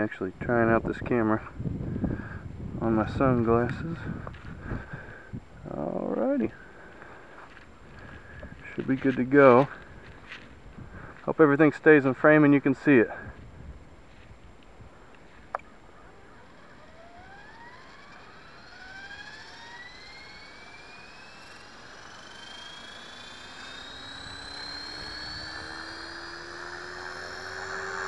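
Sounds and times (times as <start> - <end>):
rc helicopter motor whine rising: 0.7 - 28.0.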